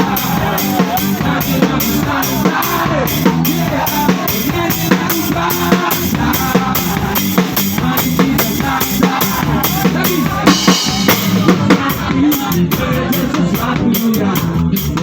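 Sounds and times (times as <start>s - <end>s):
pop song with drum beat: 0.0s - 15.0s.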